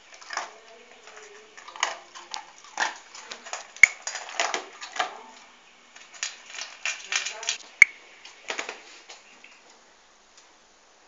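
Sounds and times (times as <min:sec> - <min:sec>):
dog crunching dry kibble: 0:00.0 - 0:09.1.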